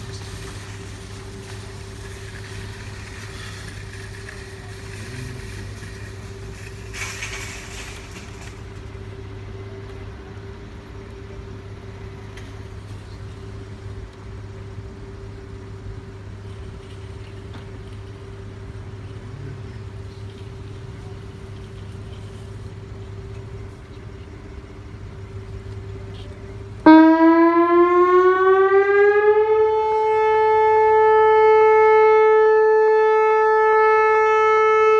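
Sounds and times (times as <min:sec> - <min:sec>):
steady hum: 0:00.0 - 0:34.9
tornado warning siren wailing: 0:00.0 - 0:34.9.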